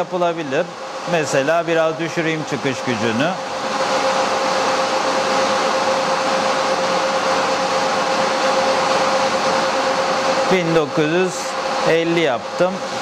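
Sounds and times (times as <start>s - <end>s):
transmitter cooling fans rushing: 0.0s - 13.0s.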